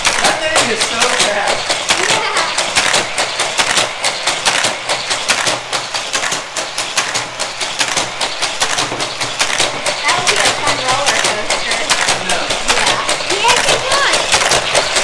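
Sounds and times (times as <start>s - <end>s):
toy track booster wheels whirring: 0.0s - 15.0s.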